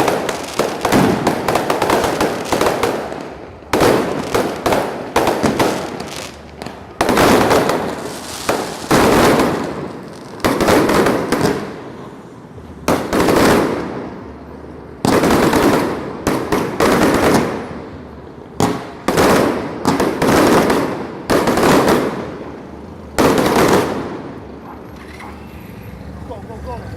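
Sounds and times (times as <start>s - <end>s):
fireworks bangs with crackle: 0.0s - 12.0s, 12.6s - 24.9s.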